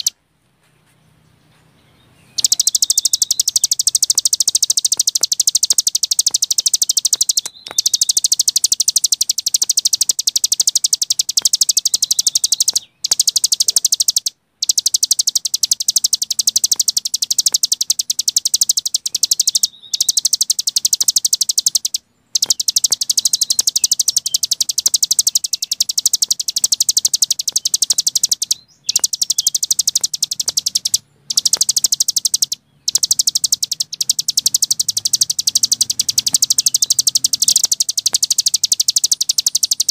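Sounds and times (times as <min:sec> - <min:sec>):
songbird high-pitched trill: 0:01.7 - 0:39.9.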